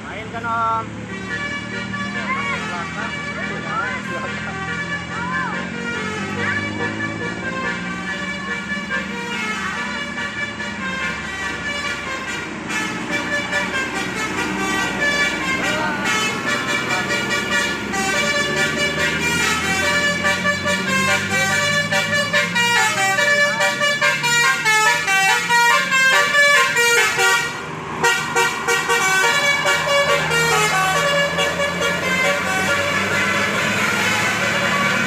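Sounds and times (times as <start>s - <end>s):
multi-tone air horn melody: 1.1s - 35.0s.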